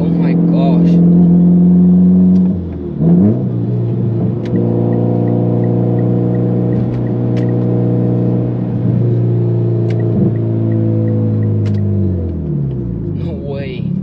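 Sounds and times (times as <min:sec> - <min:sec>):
car engine revving and droning: 0:00.0 - 0:14.0.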